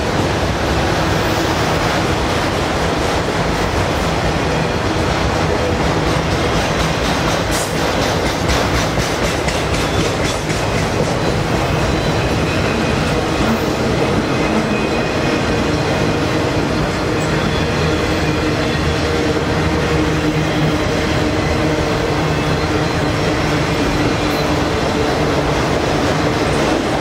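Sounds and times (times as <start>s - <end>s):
steel wheels rumbling on rails: 0.0s - 27.0s.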